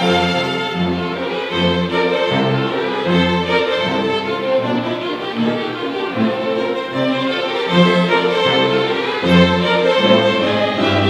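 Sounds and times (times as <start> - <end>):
string ensemble playing: 0.0 - 11.0.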